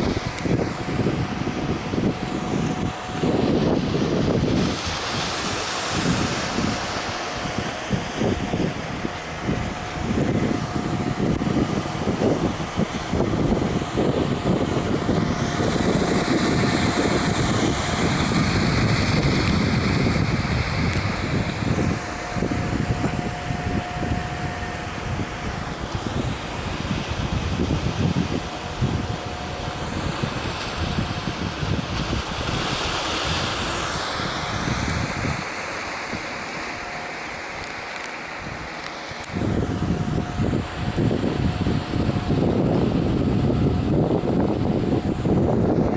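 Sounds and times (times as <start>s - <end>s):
faint steady hum: 0.0s - 45.9s
sea surf rushing: 0.0s - 45.9s
wind buffeting microphone: 0.0s - 45.9s.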